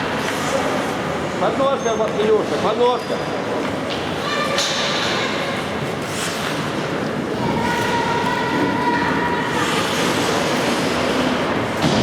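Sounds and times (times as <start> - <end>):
ice rink crowd noise: 0.0 - 12.0.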